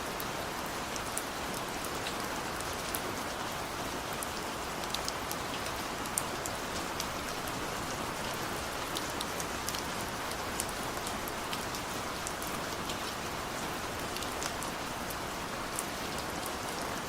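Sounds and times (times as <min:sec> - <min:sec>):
heavy rain on hard surface: 0:00.0 - 0:17.0.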